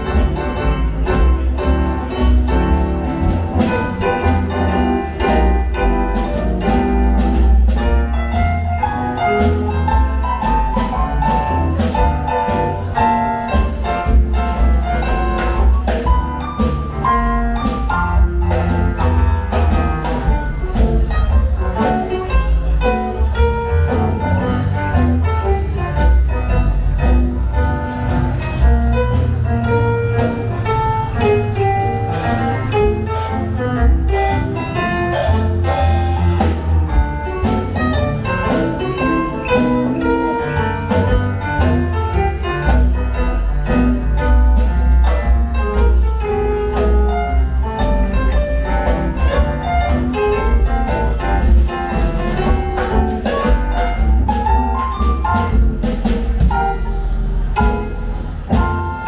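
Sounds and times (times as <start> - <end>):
instrumental jazz music: 0.0 - 59.0.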